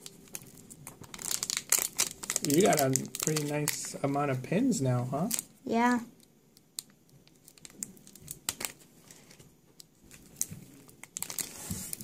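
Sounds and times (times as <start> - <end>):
foil wrapper crinkling: 0.0 - 4.1, 5.2 - 5.5, 6.6 - 12.0.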